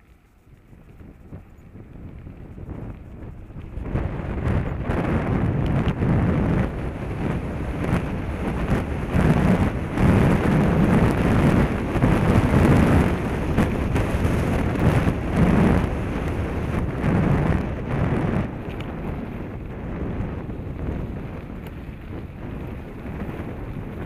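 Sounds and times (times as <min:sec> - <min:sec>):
knocks and crackles from rough ride: 0:00.0 - 0:24.0
wind buffeting microphone: 0:00.0 - 0:24.0.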